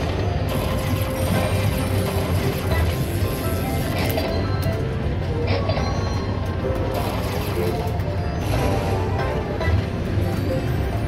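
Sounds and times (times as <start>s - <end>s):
slot machine music and effects: 0.0s - 11.0s.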